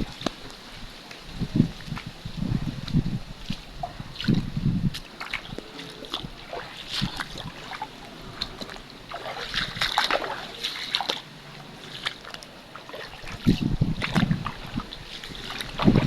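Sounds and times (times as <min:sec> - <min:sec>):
floodwater splashing and sloshing: 0:00.0 - 0:16.0.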